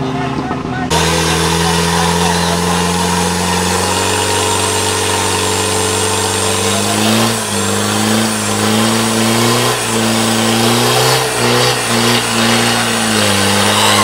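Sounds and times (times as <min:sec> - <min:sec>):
truck engine idling and revving: 0:00.0 - 0:14.0.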